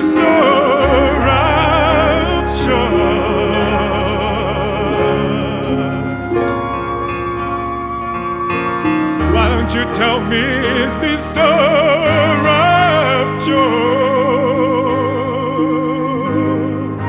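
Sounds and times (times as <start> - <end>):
slow song with operatic vocal: 0.0 - 17.0.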